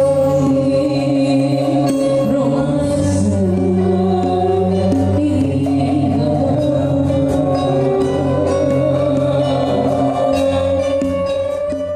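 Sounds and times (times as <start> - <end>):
instrumental accompaniment: 0.0 - 11.9
woman singing into microphone: 0.0 - 11.9.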